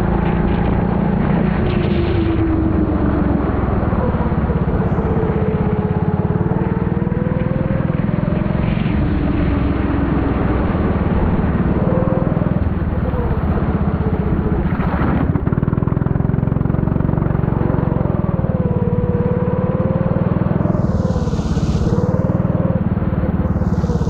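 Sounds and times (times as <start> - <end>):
kart engine running hard: 0.0 - 24.0.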